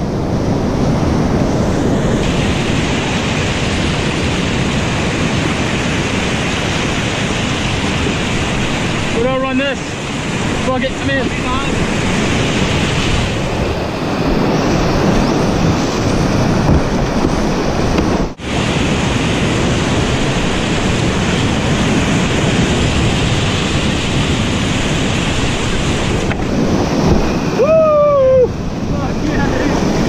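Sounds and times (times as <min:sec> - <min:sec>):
rushing whitewater: 0:00.0 - 0:30.0
wind noise on microphone: 0:00.0 - 0:30.0.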